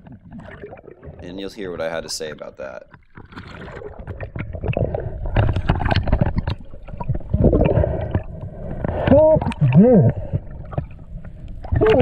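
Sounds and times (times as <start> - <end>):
water bubbling: 0.0 - 12.0
water splashing and gurgling: 0.0 - 12.0.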